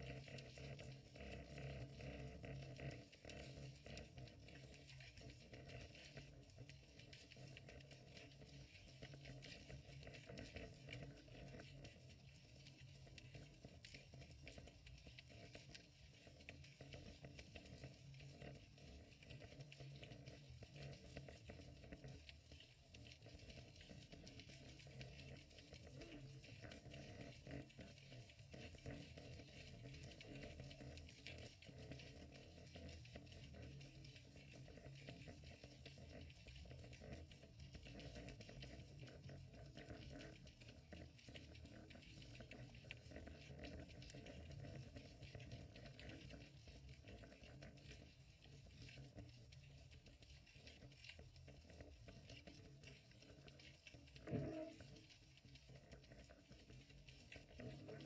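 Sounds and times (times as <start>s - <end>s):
small clicks and crackles: 0.0s - 58.0s
faint underwater noise: 0.3s - 58.0s.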